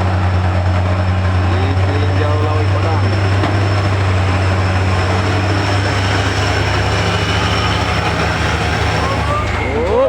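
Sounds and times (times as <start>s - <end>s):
heavy truck engine droning: 0.0s - 10.0s.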